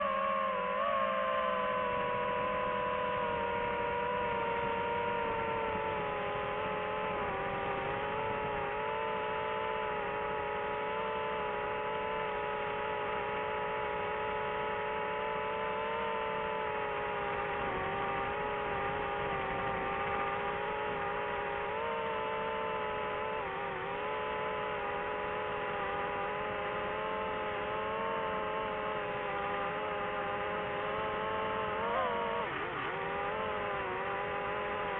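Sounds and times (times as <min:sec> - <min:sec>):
drone propellers whining: 0:00.0 - 0:34.9.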